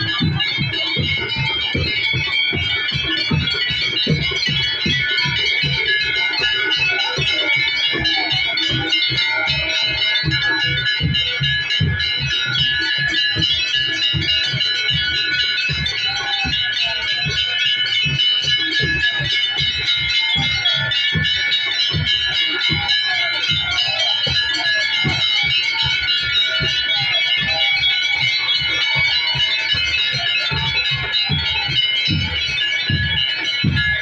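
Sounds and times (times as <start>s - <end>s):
brass bells ringing: 0.0s - 34.0s.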